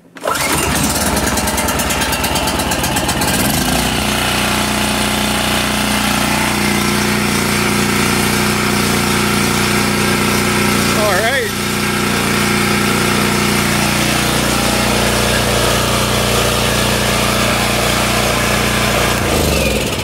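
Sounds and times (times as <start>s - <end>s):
generator engine running: 0.2s - 20.0s.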